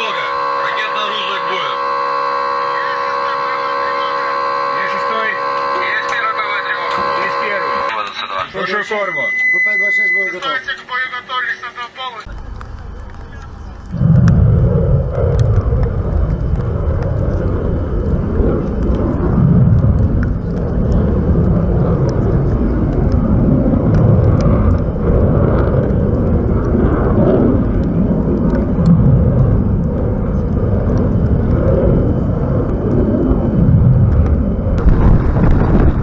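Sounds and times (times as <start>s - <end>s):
rocket motors rumbling: 0.0s - 10.5s, 12.2s - 36.0s.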